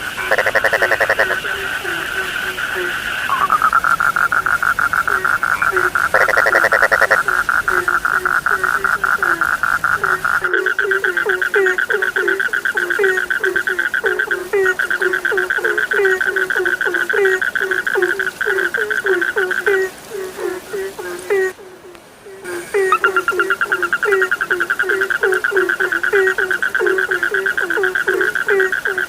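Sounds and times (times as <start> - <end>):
frogs croaking: 0.0 - 29.0
frogs trilling: 0.0 - 29.0.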